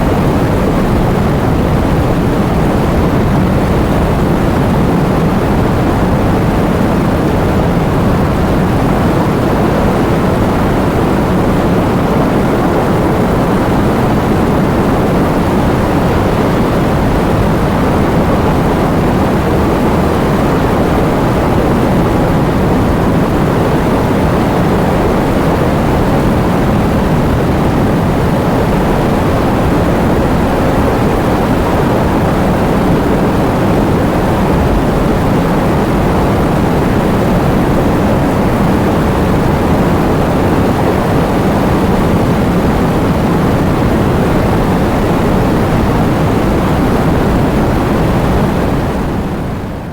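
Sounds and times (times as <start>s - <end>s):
heavy rain with wind: 0.0s - 49.9s.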